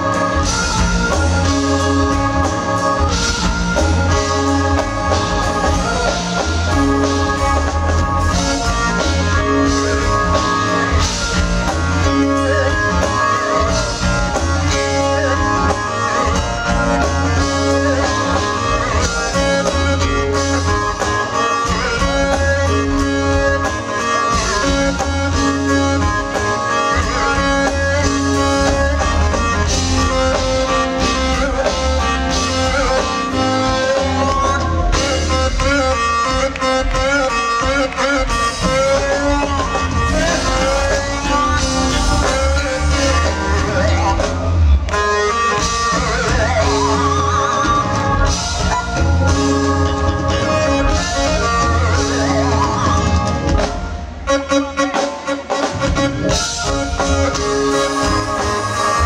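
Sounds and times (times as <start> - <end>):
pulsing bass line: 0.0 - 54.2
live band playing: 0.0 - 59.0.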